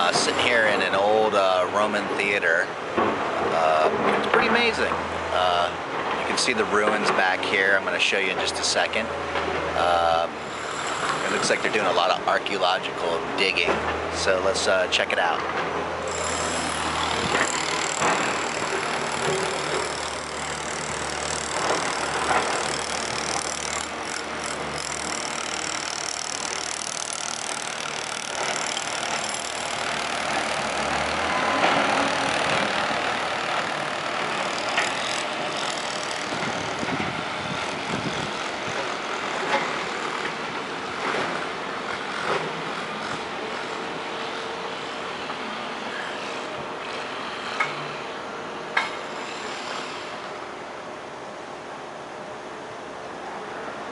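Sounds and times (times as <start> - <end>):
vehicle traffic: 0.0 - 50.6.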